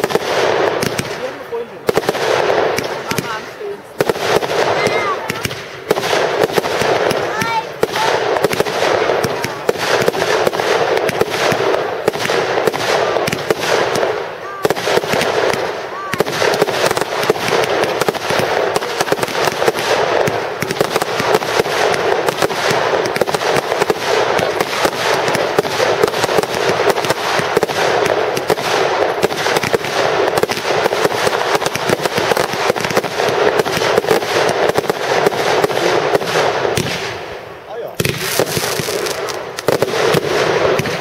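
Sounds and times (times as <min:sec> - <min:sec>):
fireworks bangs and crackle: 0:00.0 - 0:41.0.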